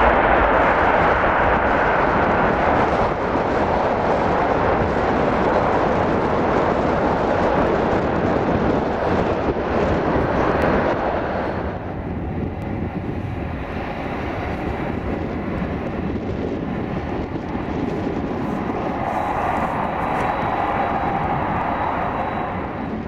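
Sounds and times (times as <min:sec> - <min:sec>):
jet engine rumble and hiss: 0:00.0 - 0:23.0
jet engine whine: 0:00.0 - 0:23.0.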